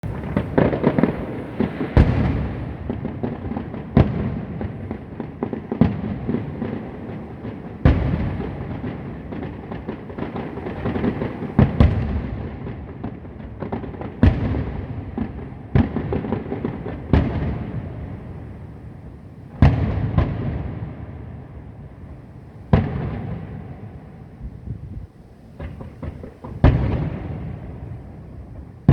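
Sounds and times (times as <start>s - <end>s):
fireworks booming bangs: 0.0s - 28.9s
fireworks crackle and rumble: 0.0s - 28.9s.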